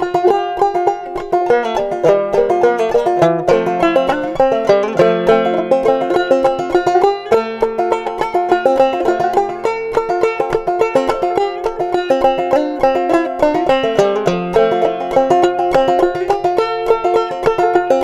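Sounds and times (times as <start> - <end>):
clawhammer banjo playing: 0.0 - 18.0.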